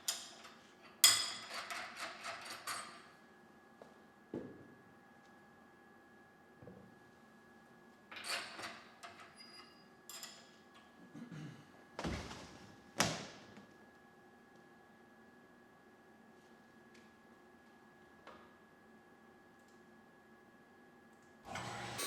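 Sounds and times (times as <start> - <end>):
faint machine hum: 0.0 - 22.0.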